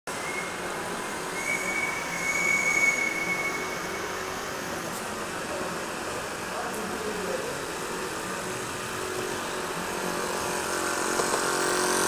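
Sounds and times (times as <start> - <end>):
high whine: 0.1 - 10.8
model locomotive engine running: 0.1 - 12.0.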